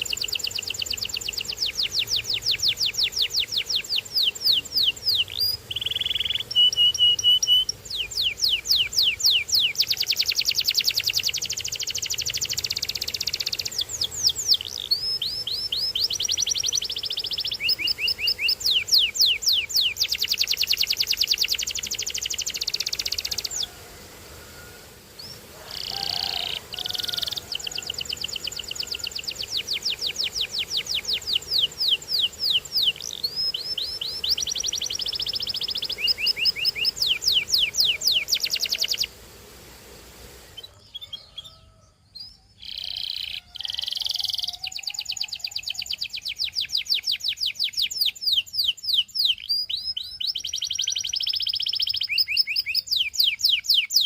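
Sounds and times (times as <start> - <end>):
canary singing trills: 0.0 - 23.8, 24.4 - 39.2, 40.5 - 54.0.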